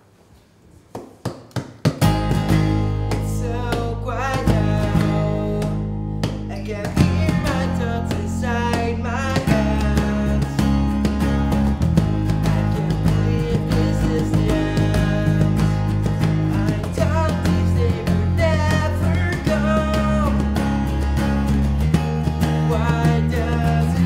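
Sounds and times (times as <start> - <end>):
acoustic guitar and bass song: 2.0 - 24.0
picked guitar notes: 2.0 - 24.0.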